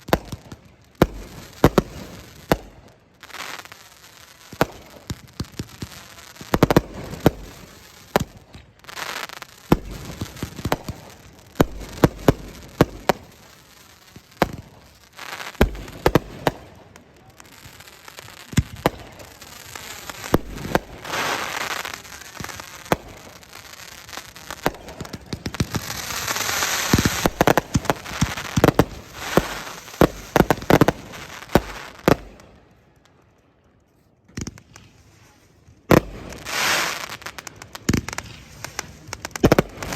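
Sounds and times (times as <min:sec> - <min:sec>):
fireworks bangs: 0:00.0 - 0:33.0, 0:34.3 - 0:39.9
fireworks crackling and hiss: 0:00.0 - 0:39.9.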